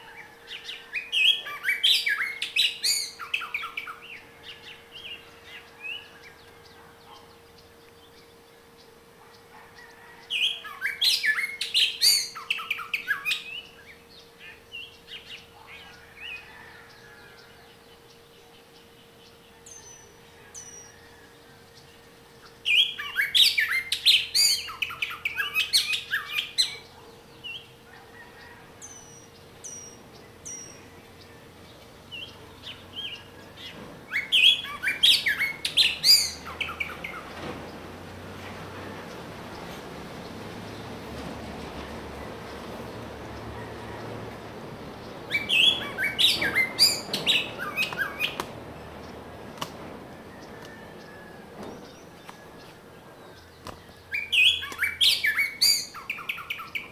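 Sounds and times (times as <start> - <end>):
bird chirping: 0.0 - 56.9
high falling bird calls: 0.0 - 56.9.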